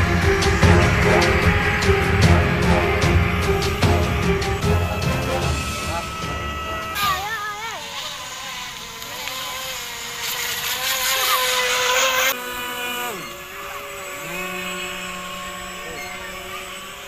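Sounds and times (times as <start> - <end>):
low steady boat hum: 0.0 - 17.0
model boat motors whining: 0.0 - 17.0.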